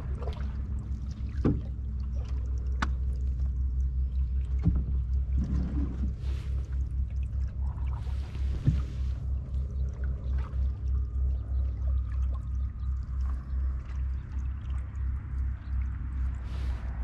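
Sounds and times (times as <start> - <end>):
low fluttering rumble: 0.0 - 17.0
water drips from paddling: 0.0 - 17.0.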